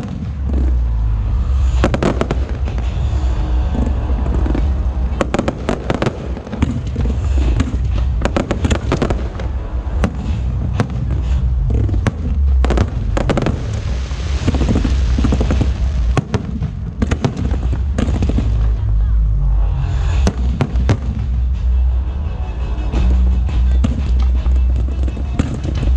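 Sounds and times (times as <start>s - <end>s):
firework crackling: 0.0s - 21.8s, 23.0s - 25.9s
deep rumble: 0.0s - 25.9s.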